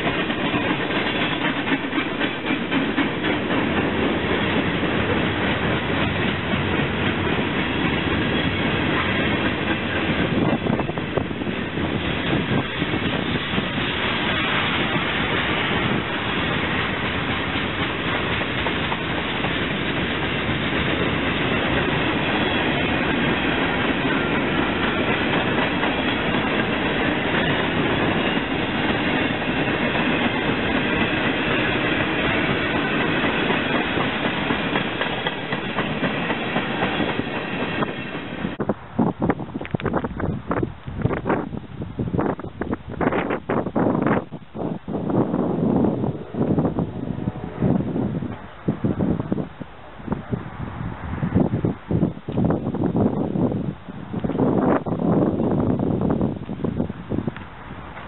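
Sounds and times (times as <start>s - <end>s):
freight train cars rolling: 0.0s - 58.0s
wind gusts on microphone: 3.8s - 58.0s.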